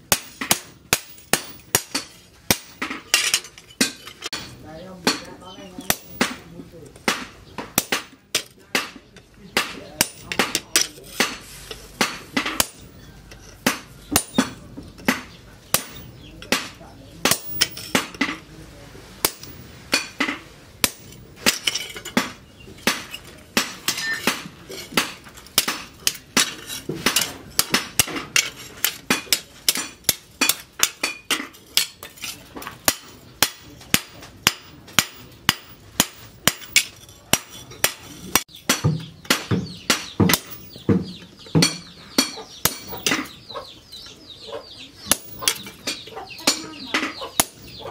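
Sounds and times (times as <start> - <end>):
hammer striking steel on anvil: 0.1 - 9.0, 9.6 - 13.0, 13.6 - 18.4, 19.2 - 43.4, 45.0 - 47.9.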